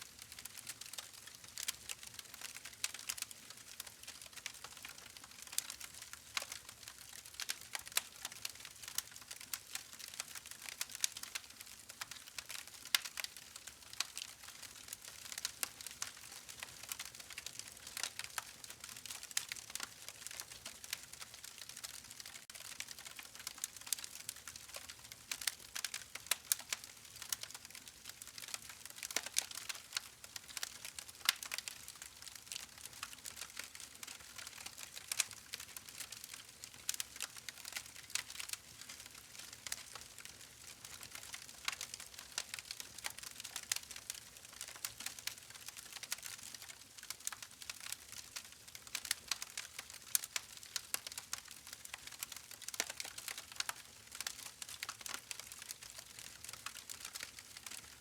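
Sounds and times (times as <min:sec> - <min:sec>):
campfire crackling and popping: 0:00.1 - 0:58.0.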